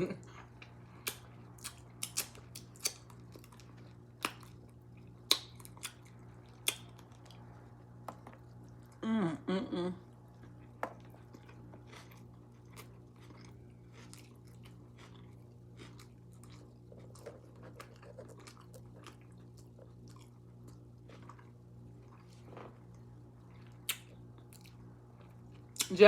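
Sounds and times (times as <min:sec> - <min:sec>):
steady low hum: 0:00.0 - 0:26.0
chewing with lip smacks: 0:00.2 - 0:09.0, 0:10.2 - 0:26.0.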